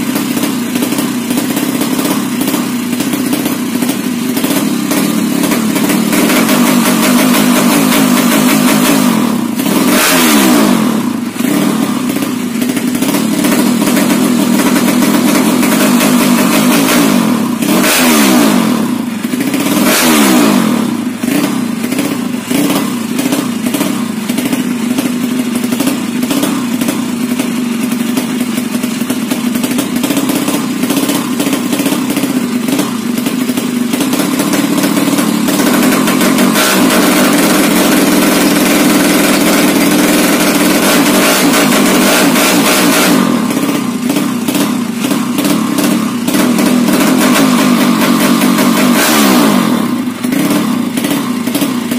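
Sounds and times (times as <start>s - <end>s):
motorcycle engine revving and idling: 0.0s - 51.9s.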